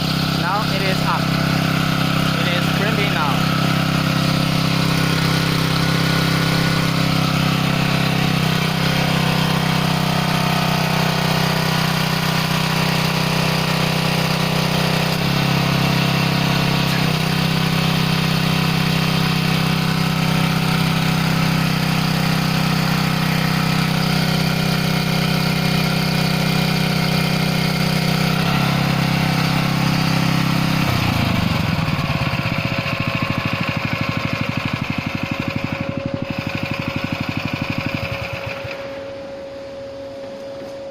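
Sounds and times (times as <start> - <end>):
gasoline engine running: 0.0 - 40.9.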